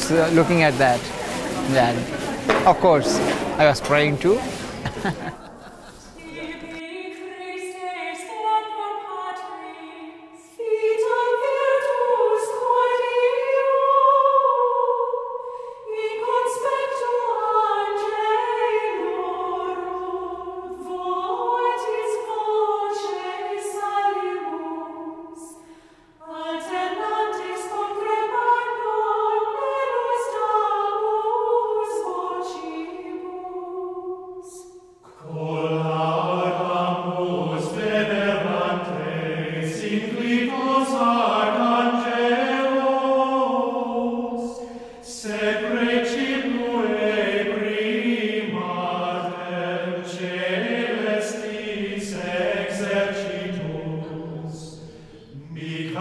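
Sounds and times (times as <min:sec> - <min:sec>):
choir singing a slow chant: 0:04.4 - 0:56.0.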